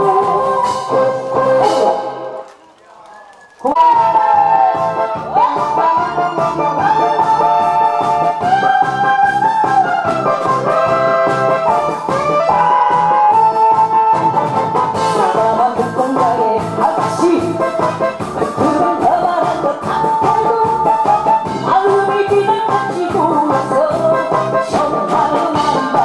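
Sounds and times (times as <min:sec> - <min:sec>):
upbeat song with brass melody: 0:00.0 - 0:26.0.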